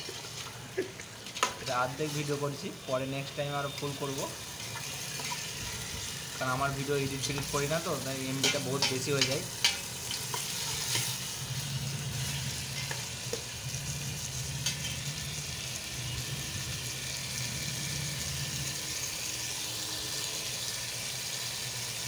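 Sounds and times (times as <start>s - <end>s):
curry sizzling in a pot: 0.0s - 22.0s.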